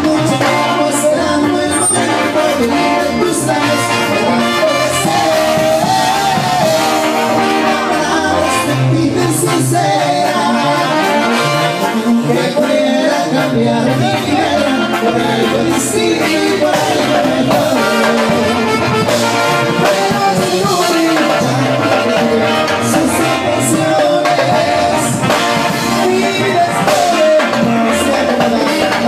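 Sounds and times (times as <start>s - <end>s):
live latin dance band music: 0.0s - 29.0s
synthesizer brass-like lines: 0.0s - 29.0s.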